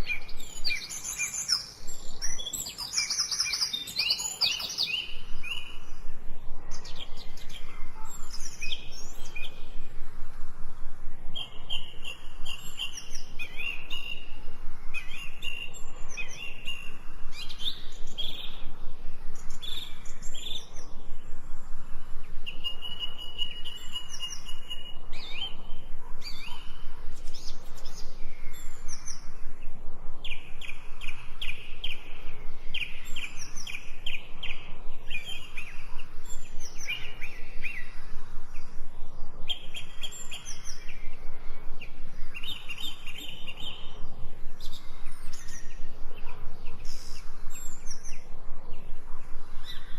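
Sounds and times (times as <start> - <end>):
soft steady hiss: 0.0 - 49.9
songbirds singing and calling: 0.0 - 49.9.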